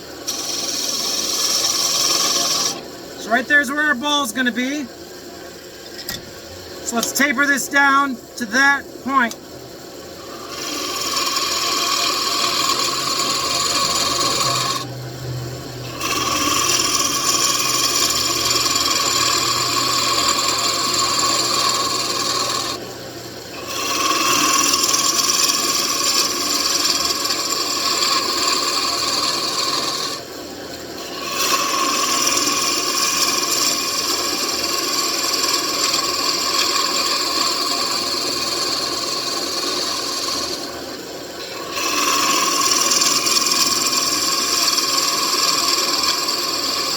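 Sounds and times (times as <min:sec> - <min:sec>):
lathe tool scraping wood: 0:00.0 - 0:04.9, 0:06.8 - 0:09.2, 0:10.2 - 0:14.9, 0:15.8 - 0:22.9, 0:23.6 - 0:30.3, 0:31.0 - 0:46.9.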